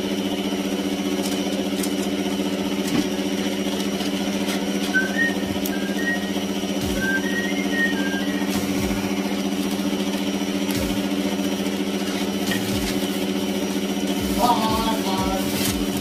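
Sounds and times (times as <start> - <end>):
stand mixer motor humming: 0.0 - 16.0
baking paper rustling: 0.9 - 6.2, 6.8 - 16.0.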